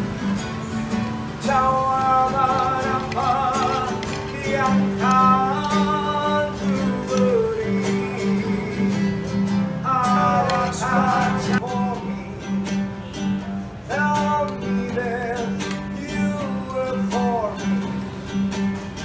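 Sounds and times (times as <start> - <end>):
acoustic guitar strumming: 0.0 - 19.0
man singing: 1.4 - 12.9, 13.8 - 17.9.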